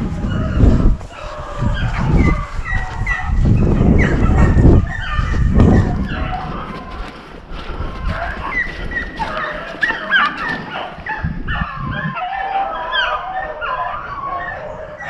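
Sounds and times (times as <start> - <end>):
dogs baying and barking: 0.0 - 15.0.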